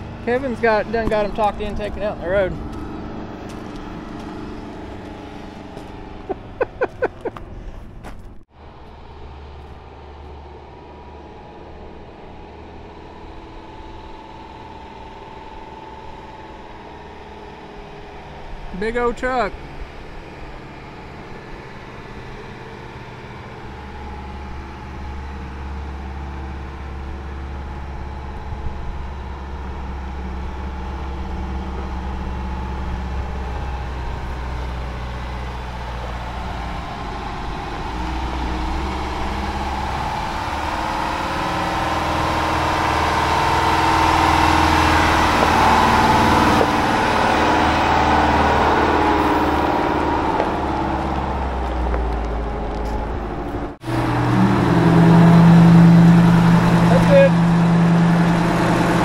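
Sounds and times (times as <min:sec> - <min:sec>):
truck driving over gravel: 0:00.0 - 0:12.0, 0:18.2 - 0:59.0
diesel truck engine running: 0:00.0 - 0:59.0.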